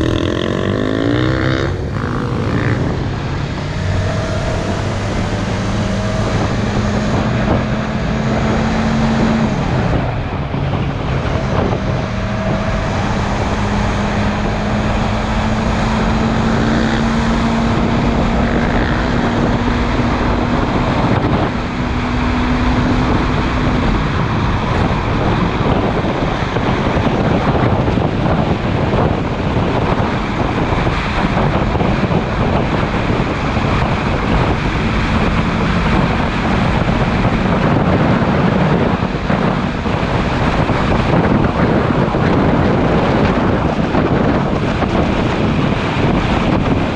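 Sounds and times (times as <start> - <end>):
motorcycle engine cruising: 0.0 - 46.9
wind noise on microphone: 0.0 - 46.9.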